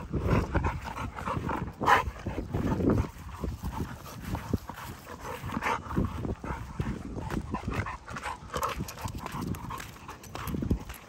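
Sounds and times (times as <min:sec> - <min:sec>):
large dog panting: 0:00.0 - 0:11.0
footsteps on wet pavement: 0:00.3 - 0:11.0.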